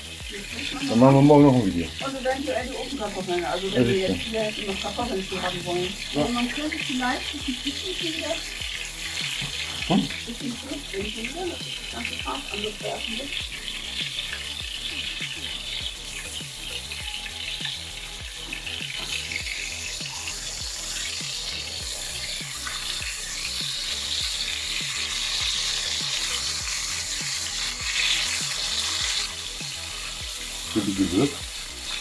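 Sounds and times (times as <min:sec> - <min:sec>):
patties sizzling in a frying pan: 0:00.0 - 0:32.0.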